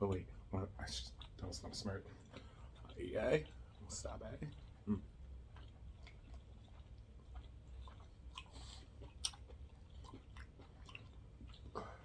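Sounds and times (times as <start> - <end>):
person chewing: 1.0 - 12.0.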